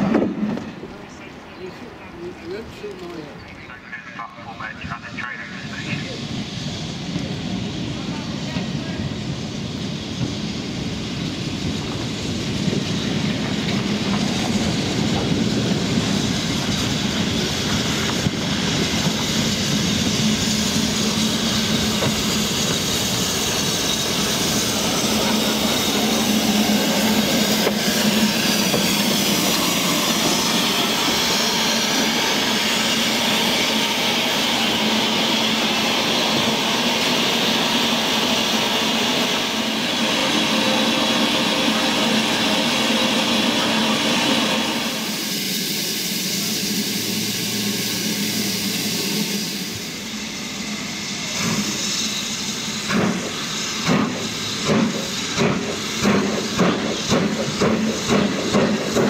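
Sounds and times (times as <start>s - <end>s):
train wheels on rails: 0.0s - 59.0s
hiss: 5.8s - 59.0s.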